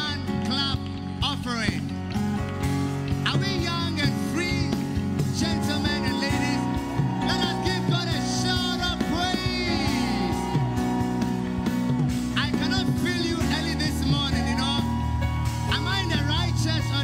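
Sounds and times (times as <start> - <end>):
band playing worship music: 0.0 - 17.0.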